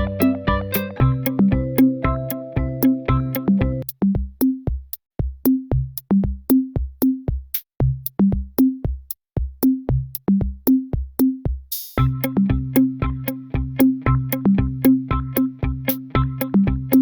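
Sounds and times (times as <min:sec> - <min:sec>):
electronic beat music: 0:00.0 - 0:17.0.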